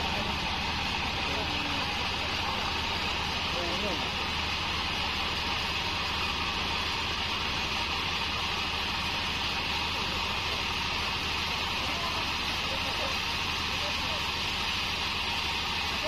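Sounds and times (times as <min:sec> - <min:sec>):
bandsaw mill running: 0:00.0 - 0:16.0.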